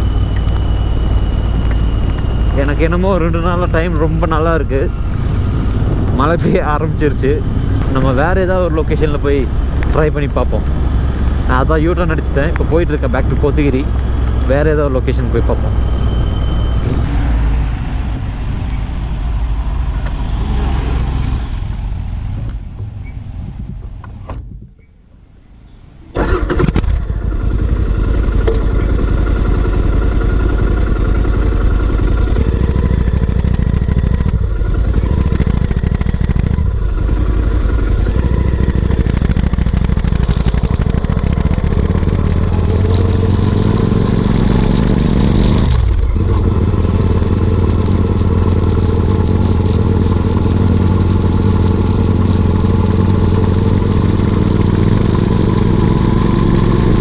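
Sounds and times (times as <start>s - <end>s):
motorcycle engine revving: 0.0s - 24.6s, 25.4s - 57.0s.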